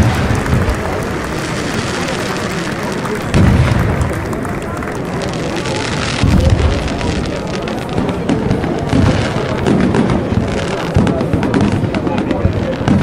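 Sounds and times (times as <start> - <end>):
crowd buzz: 0.0 - 13.0
firework crackling: 0.0 - 13.0
firework shells booming: 0.0 - 13.0.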